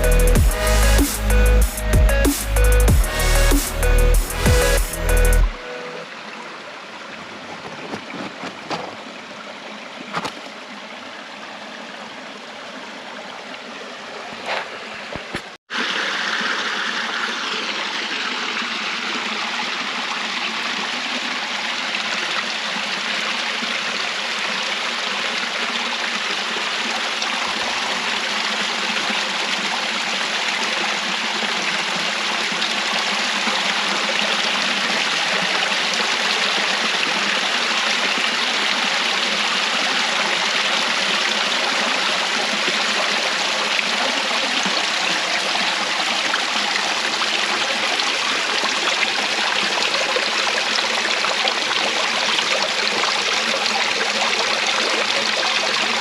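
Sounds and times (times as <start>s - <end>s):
rushing stream water: 0.0s - 56.0s.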